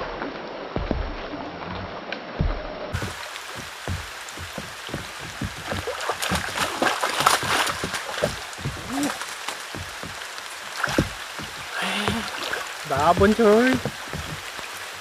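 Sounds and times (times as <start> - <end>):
fish splashing: 0.0 - 15.0
rain on water: 0.0 - 15.0.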